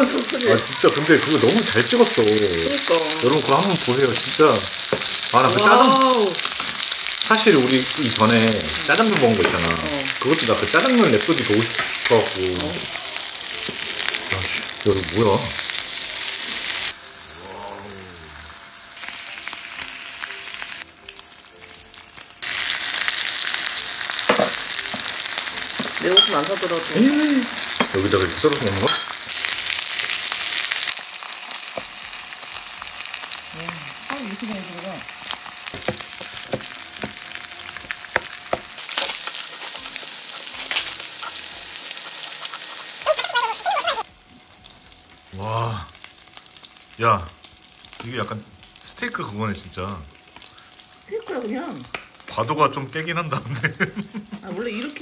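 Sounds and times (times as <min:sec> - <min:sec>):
meat sizzling on a grill: 0:00.0 - 0:55.0.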